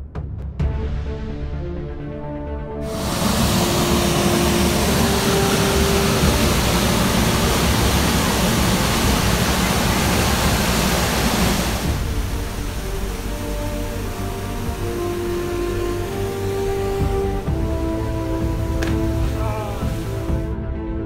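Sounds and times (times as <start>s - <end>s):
waterfall pouring into pool: 2.8s - 20.5s.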